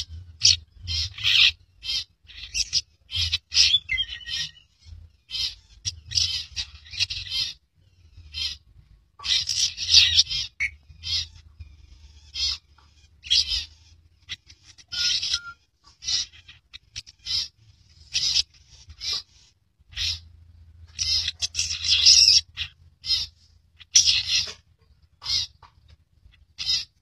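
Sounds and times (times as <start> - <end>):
bird chattering calls: 0.0 - 27.0.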